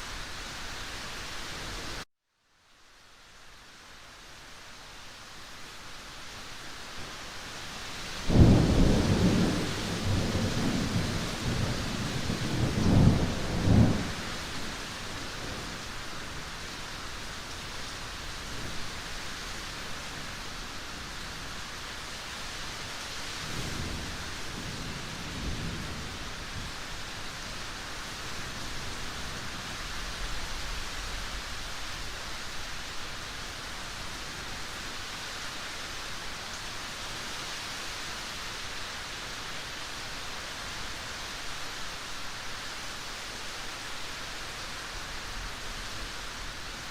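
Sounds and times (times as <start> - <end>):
rain hissing: 2.9 - 46.9.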